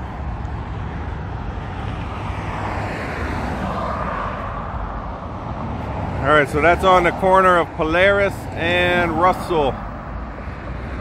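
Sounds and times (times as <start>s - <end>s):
road traffic rumble: 0.0s - 11.0s
vehicles passing: 0.0s - 11.0s.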